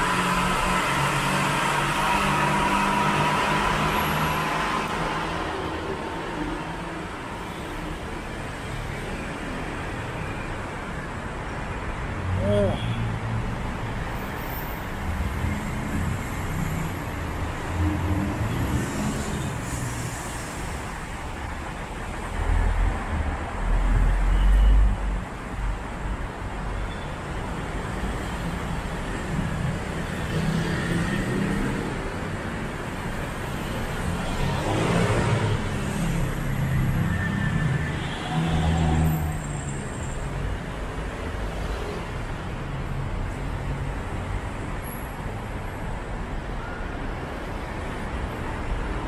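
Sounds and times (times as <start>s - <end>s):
road traffic: 0.0s - 49.0s.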